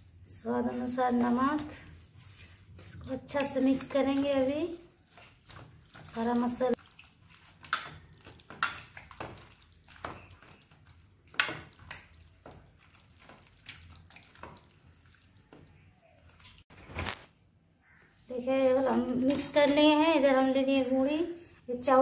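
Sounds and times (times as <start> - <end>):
wet squelches of mixing food: 0.0 - 22.0.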